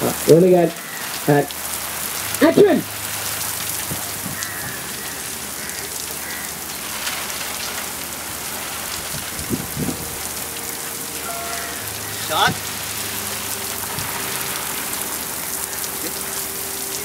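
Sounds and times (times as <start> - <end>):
heavy rain pattering: 0.0 - 17.0.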